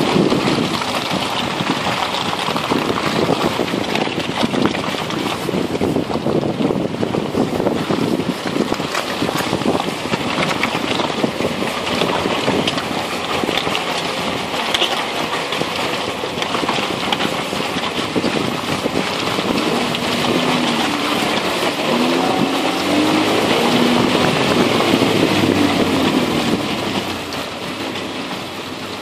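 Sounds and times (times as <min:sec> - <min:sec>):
faint engine: 0:00.0 - 0:29.0
tyres crunching over dirt: 0:00.0 - 0:29.0
wind on microphone: 0:00.0 - 0:29.0.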